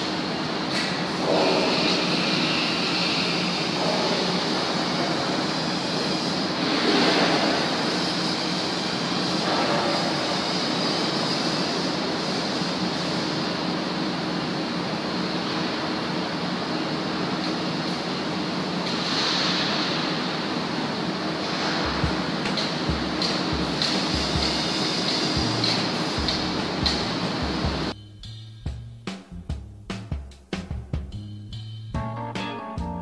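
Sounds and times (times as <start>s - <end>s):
loud rushing industrial plant noise: 0.0s - 28.0s.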